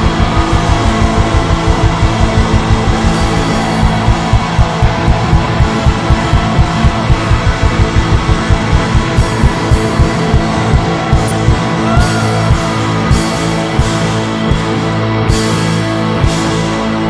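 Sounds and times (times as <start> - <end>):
fast drum beat: 0.0 - 15.6
live rock band music: 0.0 - 17.0.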